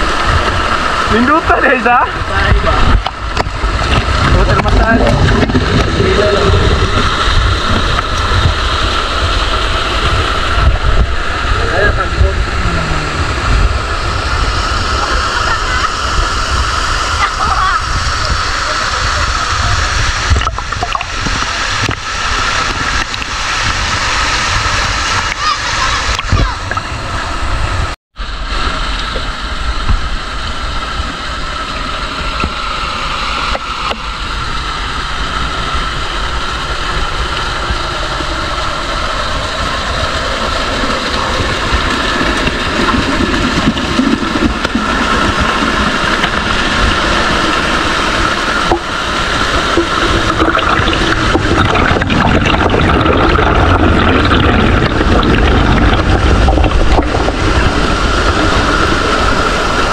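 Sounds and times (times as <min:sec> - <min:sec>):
waterfall rushing into pool: 0:00.0 - 0:59.9.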